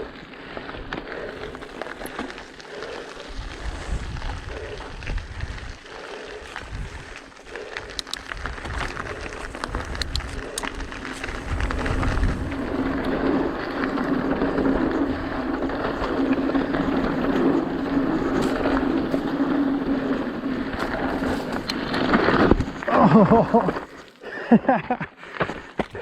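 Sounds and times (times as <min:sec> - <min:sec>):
bike tyres on dirt trail: 0:00.0 - 0:26.0.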